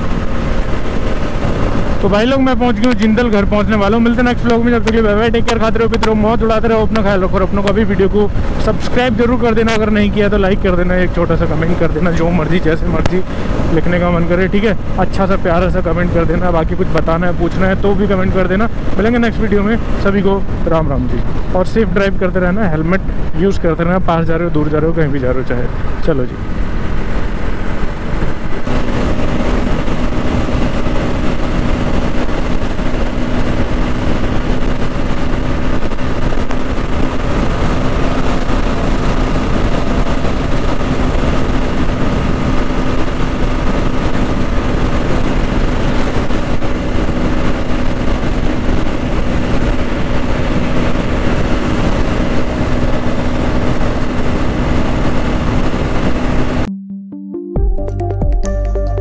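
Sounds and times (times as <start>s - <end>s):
motorcycle engine cruising: 0.0s - 56.7s
wind and road noise: 0.0s - 56.7s.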